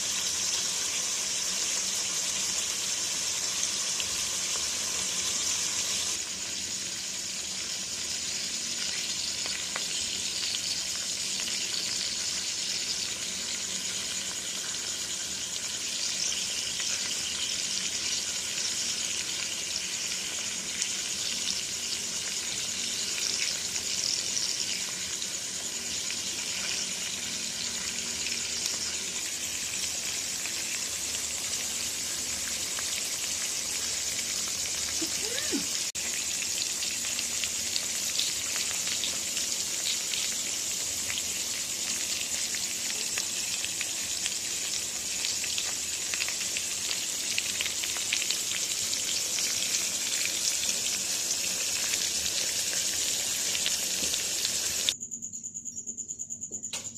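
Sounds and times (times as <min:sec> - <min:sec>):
chicken frying in oil: 0:00.0 - 0:55.0.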